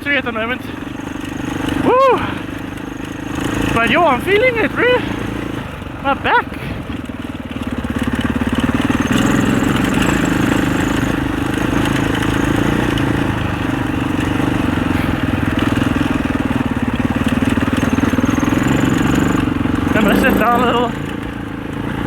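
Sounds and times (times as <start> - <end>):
dirt bike engine under load: 0.0 - 22.0.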